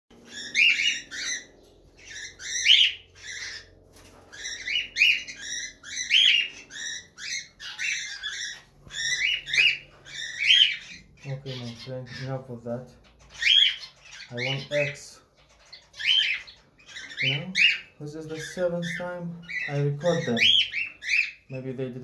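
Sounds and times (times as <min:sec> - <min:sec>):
cockatiels calling: 0:00.1 - 0:22.0.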